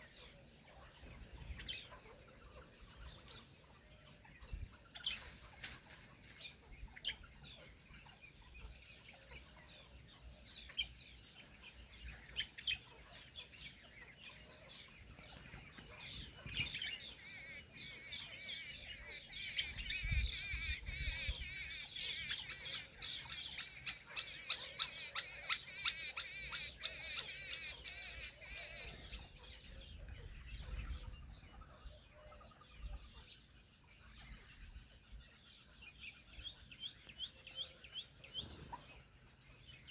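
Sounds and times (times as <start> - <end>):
birds chirping and clucking: 0.0 - 39.9.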